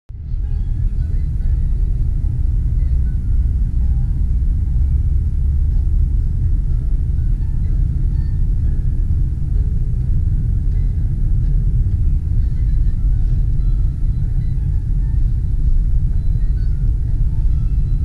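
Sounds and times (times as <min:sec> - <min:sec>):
car driving on paved road: 0:00.1 - 0:18.0.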